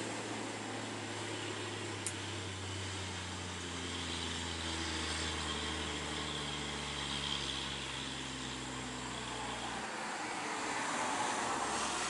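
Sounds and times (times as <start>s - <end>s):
vehicle engine running: 0.0s - 10.7s.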